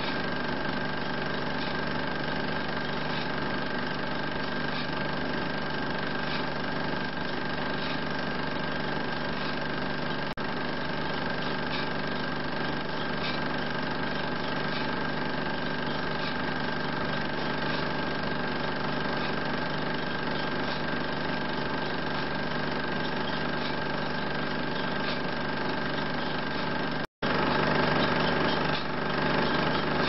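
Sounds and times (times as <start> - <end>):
film projector motor whirring: 0.0 - 30.0.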